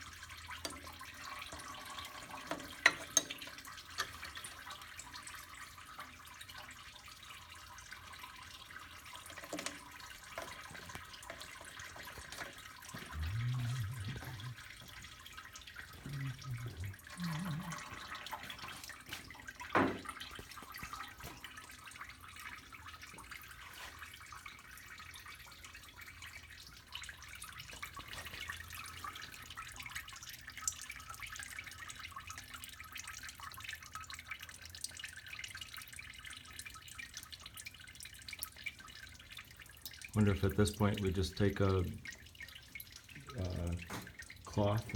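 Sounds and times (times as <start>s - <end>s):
oil trickling and dripping: 0.0s - 44.9s.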